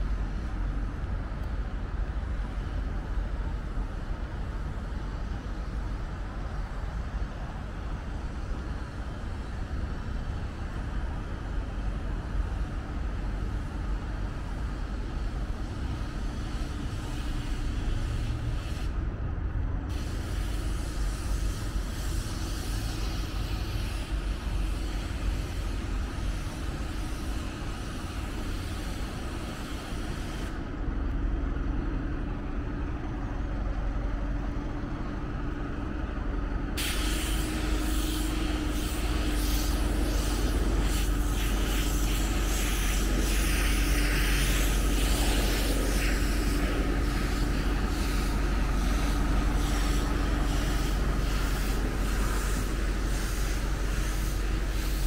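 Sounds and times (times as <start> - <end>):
city traffic rumble: 0.0 - 55.0.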